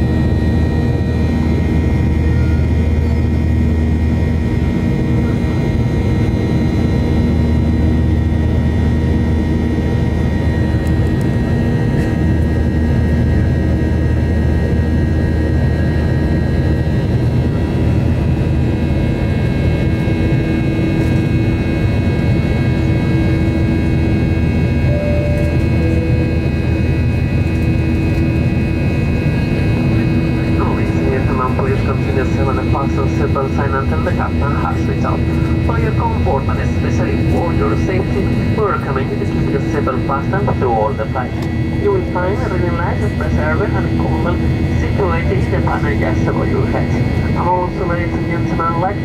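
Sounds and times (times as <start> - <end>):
jet engine cabin drone: 0.0 - 49.0.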